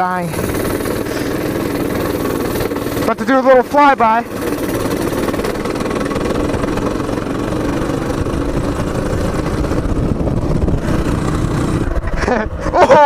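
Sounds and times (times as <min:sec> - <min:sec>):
mini bike engine passing: 0:00.0 - 0:13.0.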